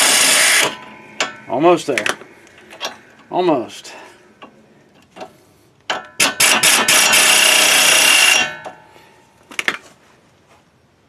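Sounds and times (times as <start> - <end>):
impact wrench whine: 0.0 - 9.0.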